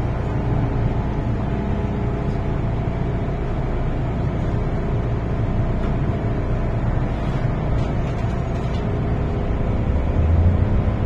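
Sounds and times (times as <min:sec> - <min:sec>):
train car hum and rumble: 0:00.0 - 0:11.0.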